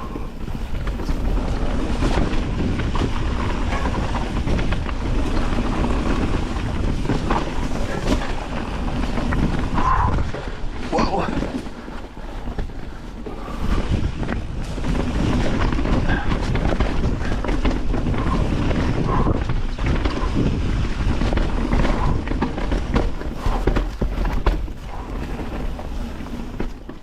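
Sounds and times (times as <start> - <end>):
mountain bike rattling over trail: 0.0 - 27.0
wind rumble on microphone: 0.0 - 27.0.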